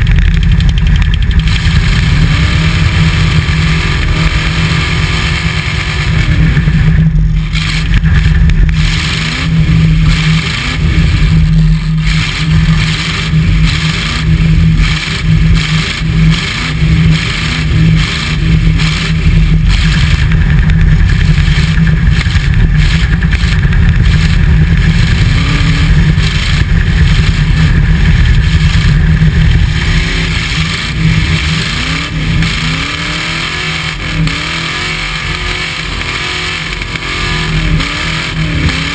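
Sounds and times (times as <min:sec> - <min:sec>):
truck engine revving hard: 0:00.0 - 0:38.9.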